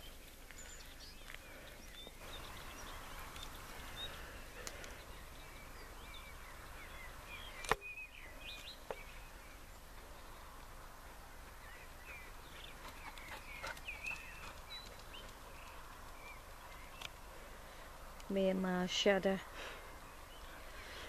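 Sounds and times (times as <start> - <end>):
small birds chirping: 0.0 - 21.0
steady outdoor hiss: 0.0 - 21.0.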